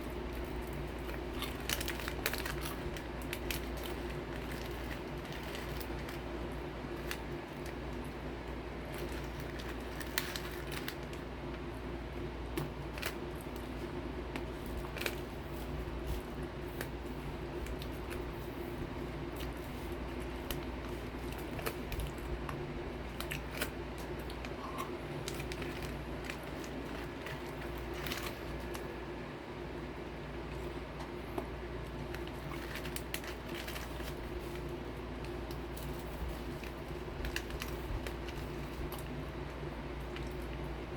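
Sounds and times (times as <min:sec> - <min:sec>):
crackers crunching: 0:00.0 - 0:29.1, 0:30.4 - 0:40.9
steady low hum: 0:00.0 - 0:40.9.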